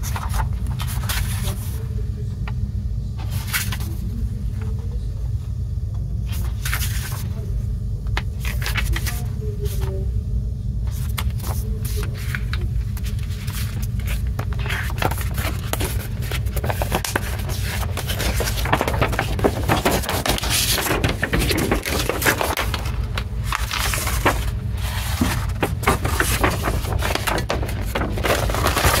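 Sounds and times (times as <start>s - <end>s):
paper rustling and crinkling: 0.0s - 1.8s, 3.2s - 4.2s, 6.3s - 7.4s, 8.2s - 10.0s, 10.9s - 29.0s
steady low hum: 0.0s - 29.0s.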